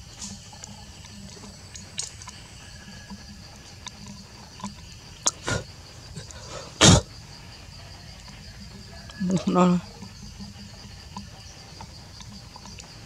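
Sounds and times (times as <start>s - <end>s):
high insect chirring: 0.0s - 13.0s.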